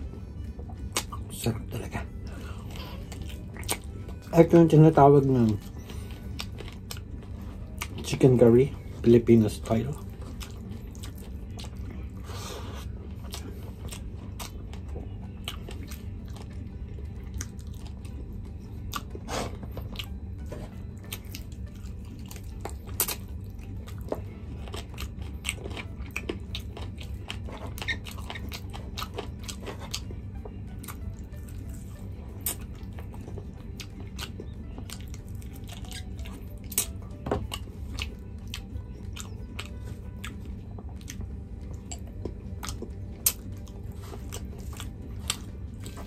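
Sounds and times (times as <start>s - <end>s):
person chewing and biting: 0.4s - 1.3s, 2.4s - 4.3s, 5.5s - 8.1s, 9.9s - 46.0s.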